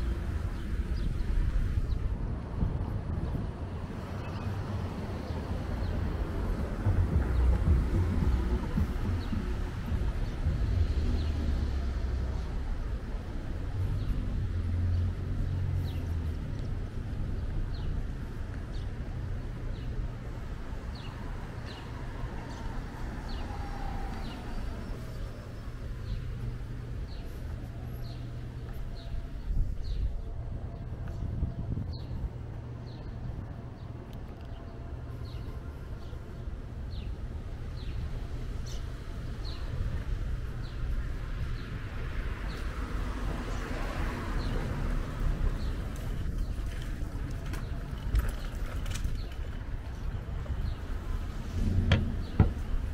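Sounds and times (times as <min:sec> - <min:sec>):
low traffic rumble: 0:00.0 - 0:52.9.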